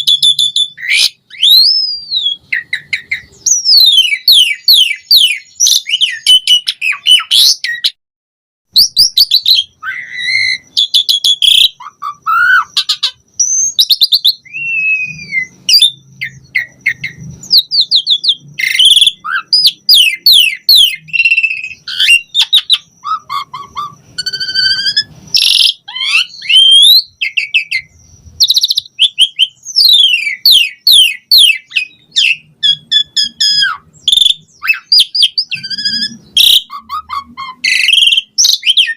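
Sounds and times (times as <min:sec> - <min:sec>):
starling singing: 0:00.0 - 0:08.0, 0:08.7 - 0:38.9.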